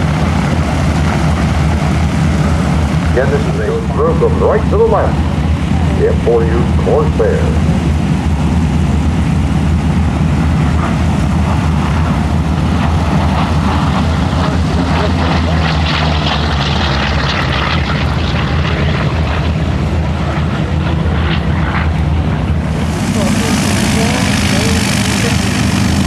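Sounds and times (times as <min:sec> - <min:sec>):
propeller plane engine running: 0:00.0 - 0:26.0.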